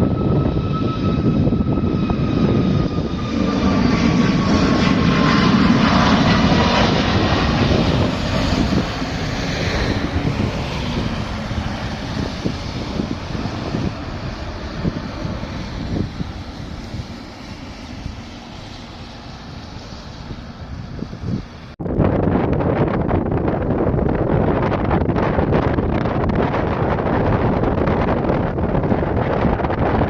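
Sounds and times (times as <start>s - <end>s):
airliner engines taking off: 0.0s - 30.0s
high engine whine: 0.0s - 30.0s.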